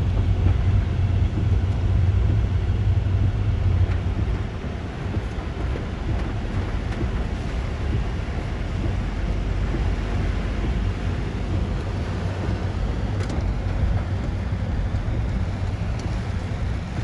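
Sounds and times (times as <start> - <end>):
heavy rain: 0.0 - 17.0
strong wind: 0.0 - 17.0
wind rumble on microphone: 0.0 - 17.0.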